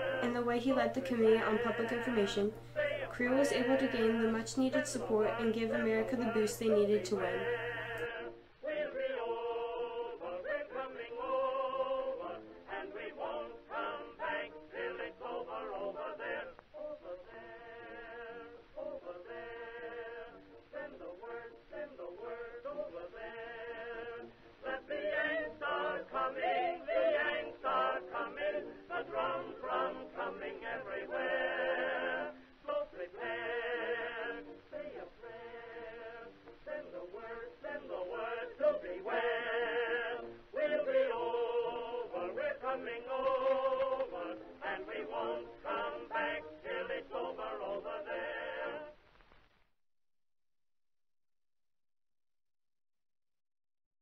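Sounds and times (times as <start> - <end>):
person singing with vibrato: 0.0 - 48.9
musical accompaniment: 0.0 - 49.0.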